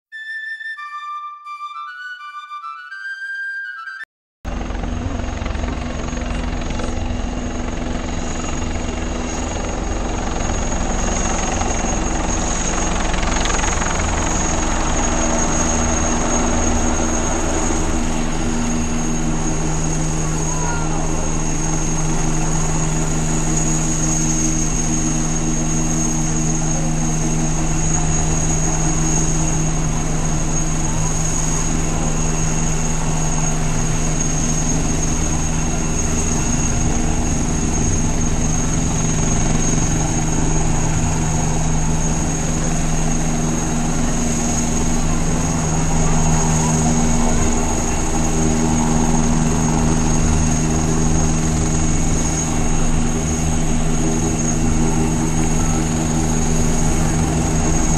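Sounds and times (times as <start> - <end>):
helicopter hovering with turbine whine: 4.5 - 57.9.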